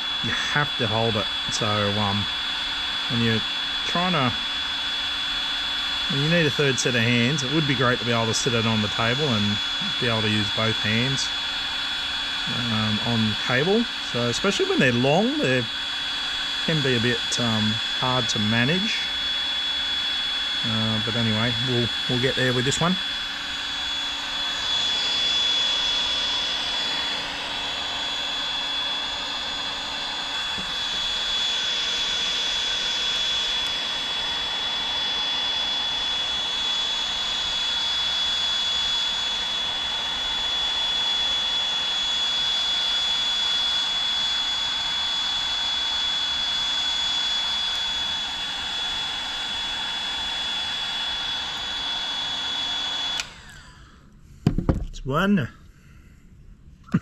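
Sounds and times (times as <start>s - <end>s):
heat gun fan whining: 0.0s - 57.0s.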